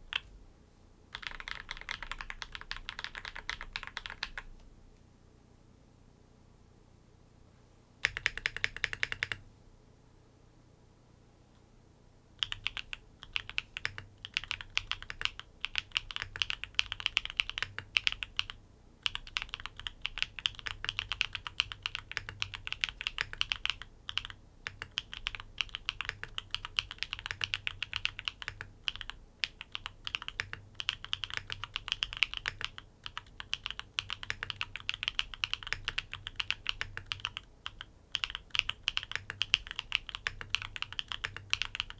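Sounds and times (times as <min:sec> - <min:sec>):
typing on mechanical keyboard: 0:01.2 - 0:04.5, 0:08.0 - 0:09.4, 0:12.4 - 0:41.9.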